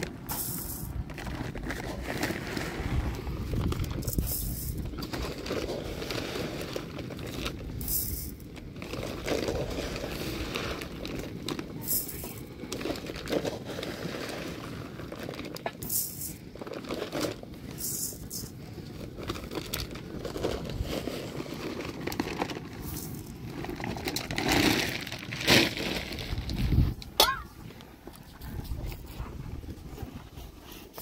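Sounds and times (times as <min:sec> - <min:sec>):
rice grains pouring: 0:00.0 - 0:26.8
plastic sack crinkling: 0:00.0 - 0:27.1.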